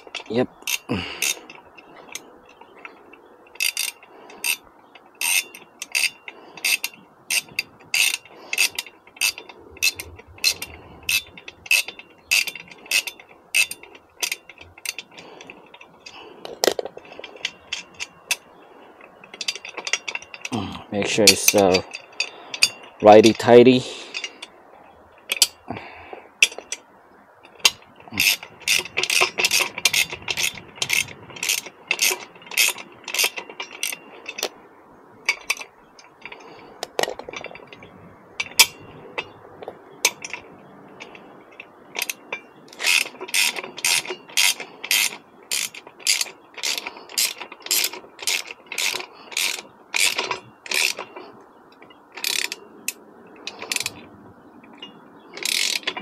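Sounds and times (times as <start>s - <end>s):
ratcheting wrench clicking: 0.0s - 23.5s, 25.3s - 25.8s, 26.4s - 26.8s, 27.4s - 34.6s, 35.2s - 56.0s.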